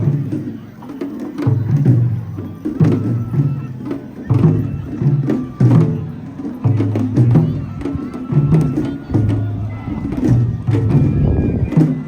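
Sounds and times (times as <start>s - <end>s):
festival drums: 0.0s - 12.0s.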